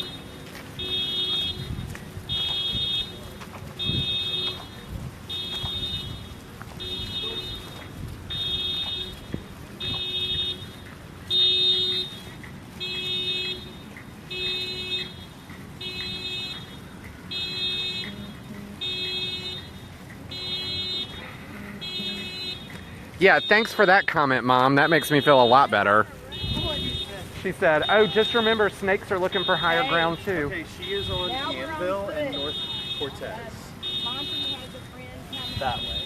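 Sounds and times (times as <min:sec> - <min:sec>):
electronic alarm beeping: 0:03.8 - 0:36.0.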